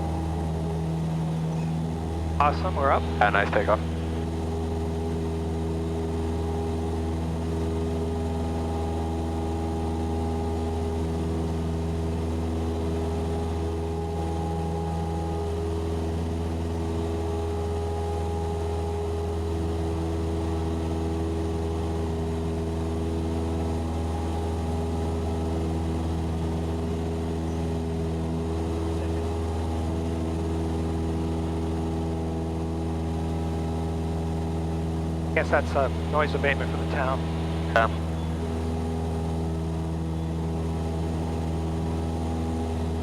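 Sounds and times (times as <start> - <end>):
propeller plane engine droning: 0.0 - 43.0.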